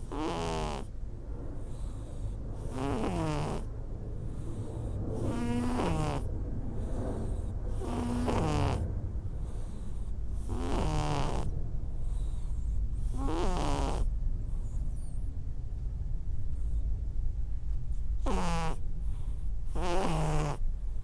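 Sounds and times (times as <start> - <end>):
cat snoring with whistling breaths: 0.0 - 1.0, 1.6 - 15.3, 18.2 - 21.0
low steady rumble: 0.8 - 21.0.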